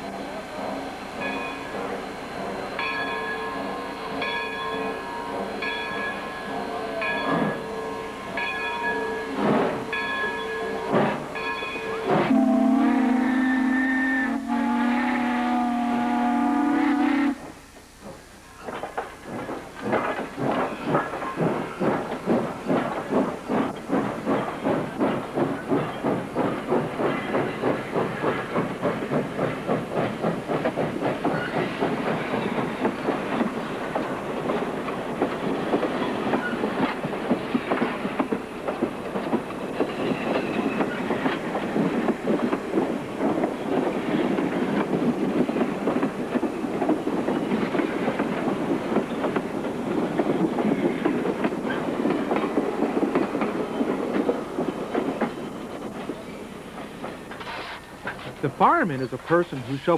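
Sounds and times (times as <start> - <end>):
train wheels clattering on rails: 0.0 - 16.2, 16.9 - 59.9
steam locomotive chuffing: 0.0 - 59.9.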